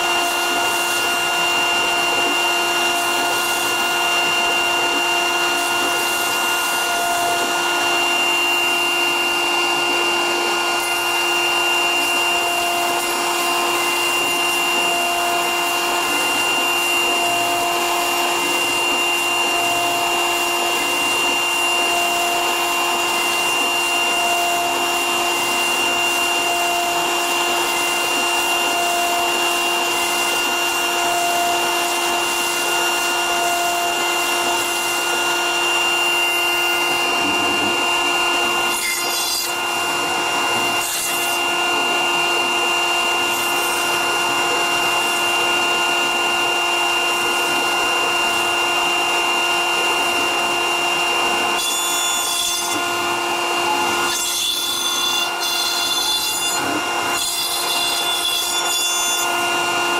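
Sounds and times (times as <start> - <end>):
cutter rasping foam: 0.0 - 59.9
router spindle whine: 0.0 - 59.9.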